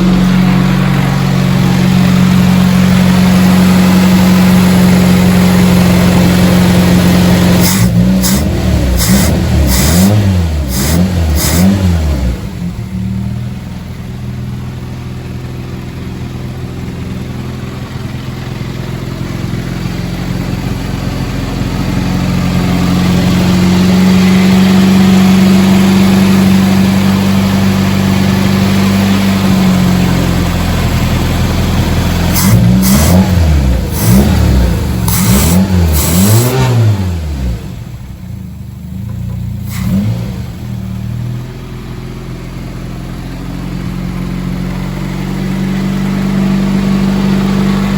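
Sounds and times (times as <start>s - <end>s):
car engine revving and idling: 0.0s - 47.9s.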